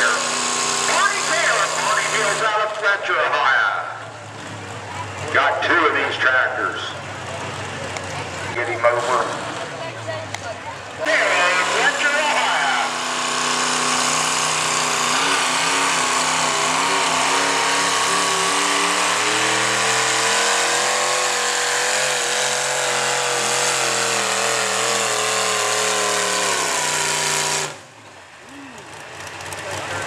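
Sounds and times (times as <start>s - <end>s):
tractor engine running hard under load: 0.0s - 10.2s, 10.8s - 30.0s.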